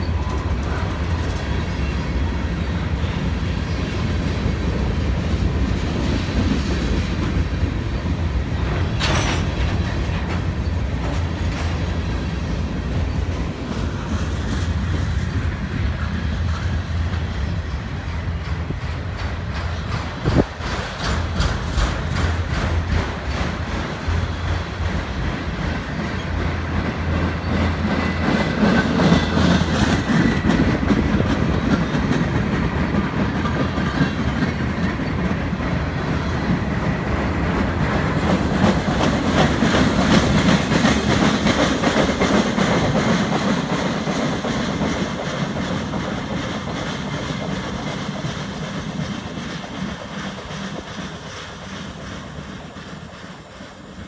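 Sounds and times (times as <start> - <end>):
wheels clicking over rail joints: 0.0 - 53.9
freight train rolling past: 0.0 - 54.0.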